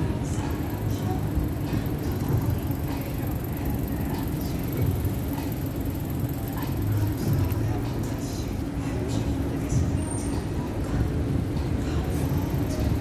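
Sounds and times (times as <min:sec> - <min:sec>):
city traffic rumble: 0:00.0 - 0:13.0
faint indistinct voices: 0:00.0 - 0:13.0.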